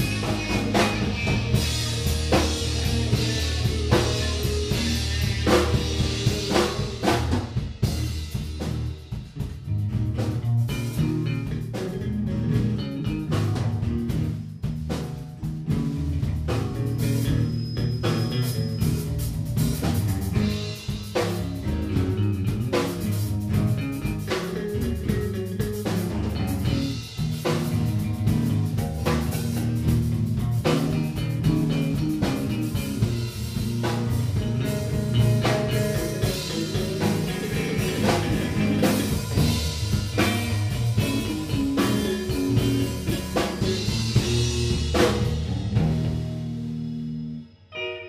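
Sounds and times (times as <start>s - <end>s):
drum kit beat: 0.0s - 47.4s
electric bass: 0.0s - 48.0s
guitars: 0.0s - 48.0s.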